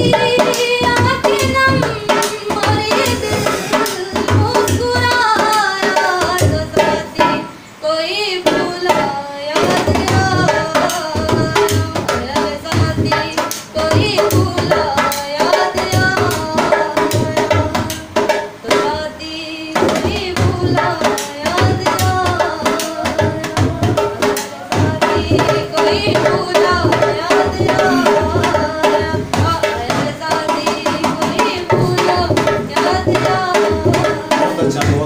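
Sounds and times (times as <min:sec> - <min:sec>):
hand drum beat: 0:00.0 - 0:07.5, 0:08.3 - 0:35.0
woman singing: 0:00.0 - 0:35.0.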